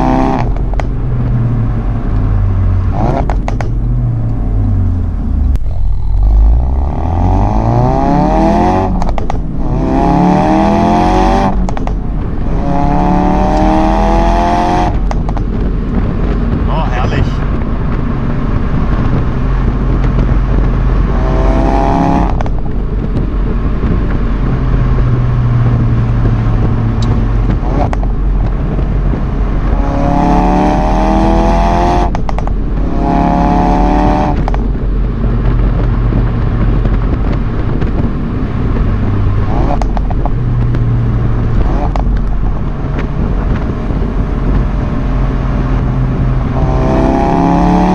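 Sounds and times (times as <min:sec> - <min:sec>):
car engine accelerating: 0:00.0 - 0:47.9
low road rumble: 0:00.0 - 0:47.9.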